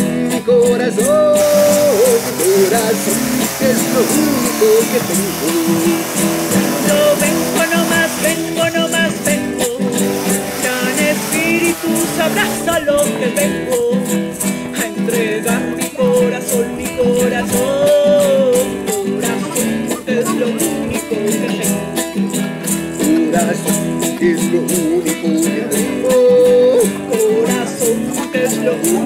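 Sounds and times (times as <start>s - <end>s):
guitar music over beat: 0.0s - 29.0s.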